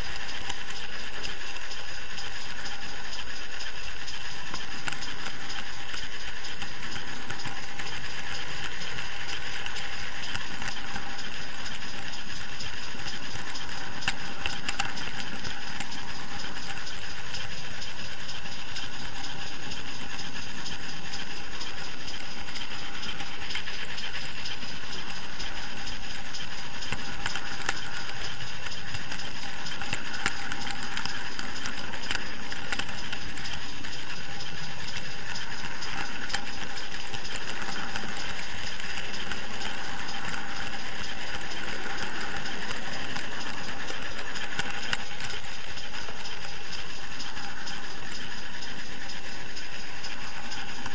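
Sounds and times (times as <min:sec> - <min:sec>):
constant hiss: 0:00.0 - 0:50.9
light rattle: 0:00.0 - 0:50.9
model train mechanical whir: 0:00.0 - 0:50.9.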